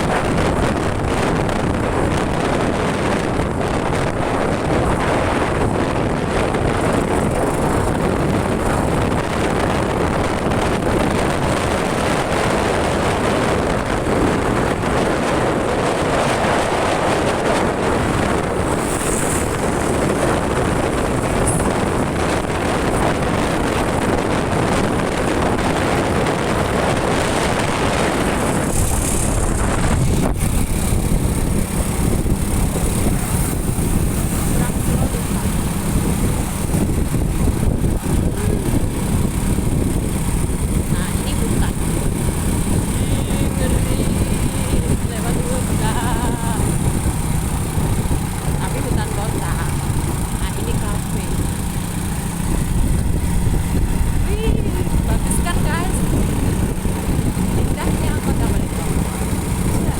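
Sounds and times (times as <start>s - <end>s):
motorcycle engine: 0.0s - 59.9s
road noise: 0.0s - 59.9s
wind rushing over microphone: 0.0s - 59.9s.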